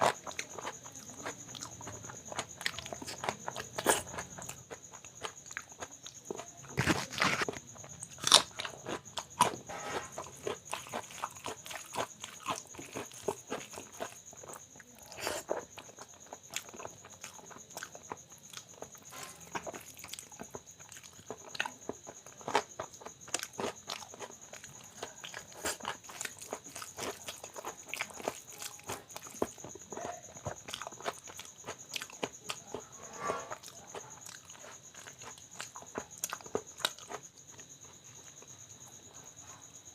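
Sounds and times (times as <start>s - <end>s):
person chewing soft food: 0.0s - 39.7s.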